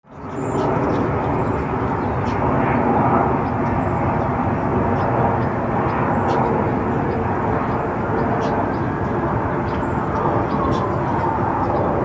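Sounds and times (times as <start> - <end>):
outdoor background roar: 0.0 - 12.0.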